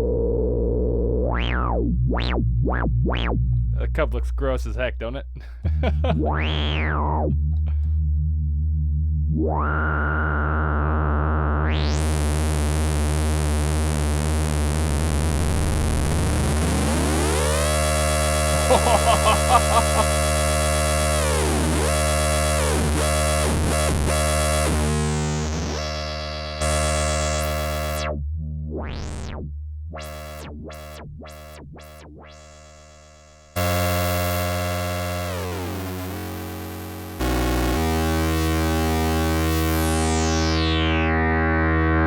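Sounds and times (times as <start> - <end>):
synthesizer drone with filter sweep: 6.2 - 42.0.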